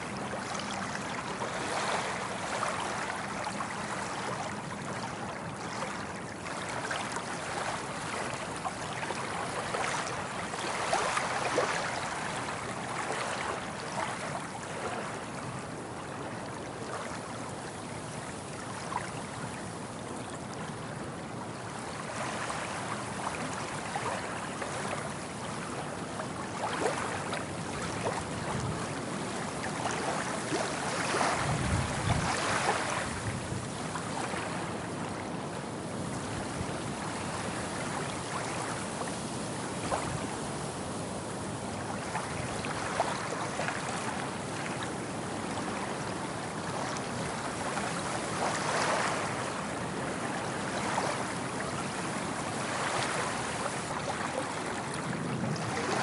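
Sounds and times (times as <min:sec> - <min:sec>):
ocean waves washing on beach: 0:00.0 - 0:56.0.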